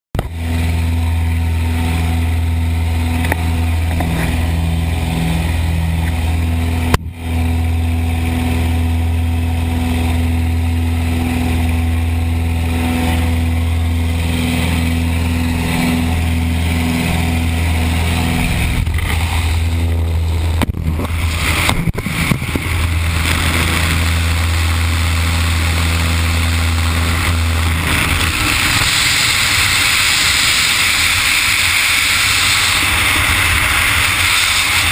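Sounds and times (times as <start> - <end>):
propeller plane engines droning: 0.2 - 34.9.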